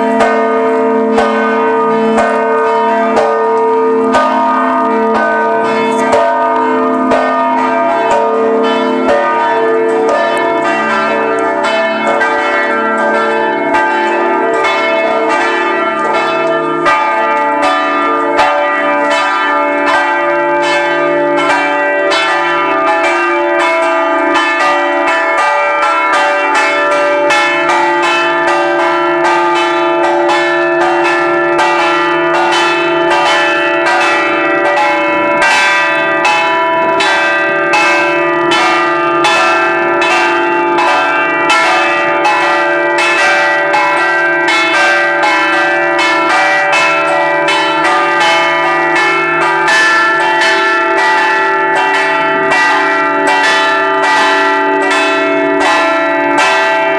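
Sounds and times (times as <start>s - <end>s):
church bells pealing: 0.0s - 56.9s.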